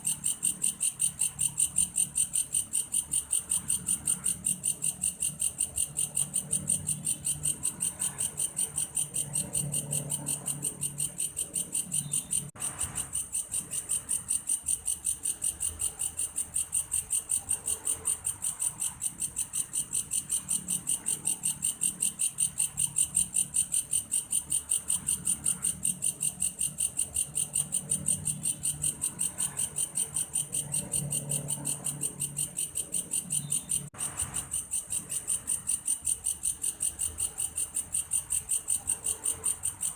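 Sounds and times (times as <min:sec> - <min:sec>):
grasshopper calling pulses: 0:00.0 - 0:39.9.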